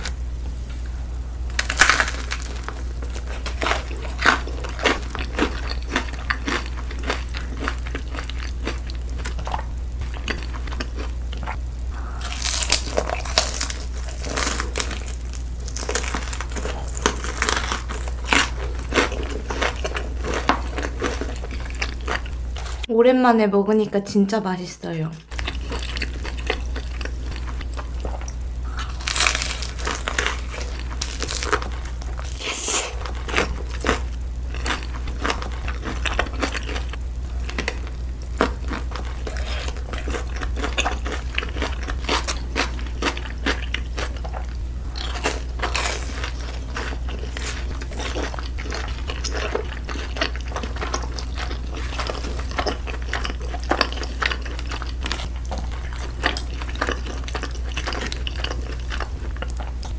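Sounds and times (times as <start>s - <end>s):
steady low hum: 0.0s - 59.9s
crunching and chewing crispy food: 0.8s - 22.9s, 25.2s - 59.9s.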